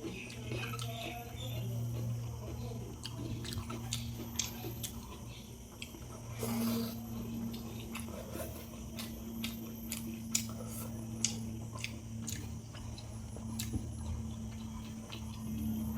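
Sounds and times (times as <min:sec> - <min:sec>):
low hum: 0:00.0 - 0:15.9
person chewing food: 0:00.0 - 0:15.9.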